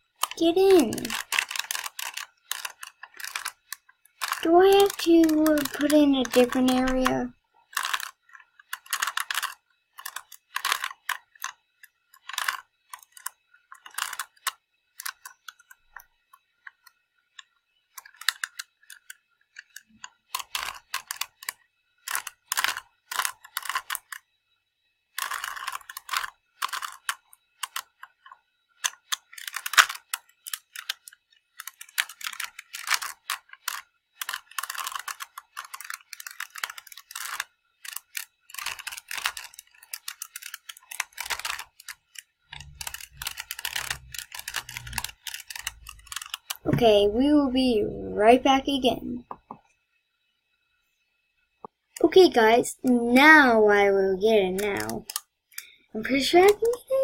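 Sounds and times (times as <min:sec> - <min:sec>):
plastic puzzle cube clicking: 0:00.2 - 0:24.2, 0:25.1 - 0:47.2, 0:54.4 - 0:57.0.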